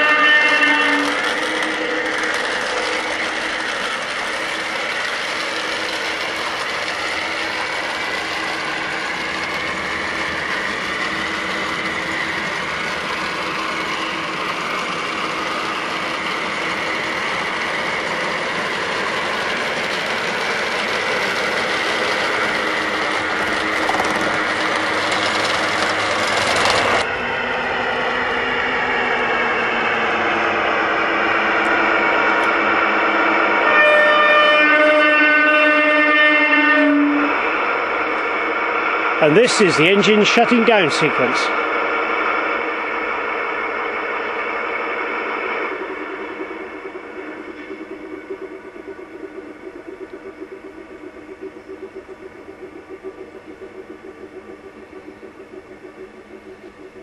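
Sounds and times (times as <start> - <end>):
model train diesel engine sound: 0.0 - 57.0
model train running noise: 0.0 - 57.0.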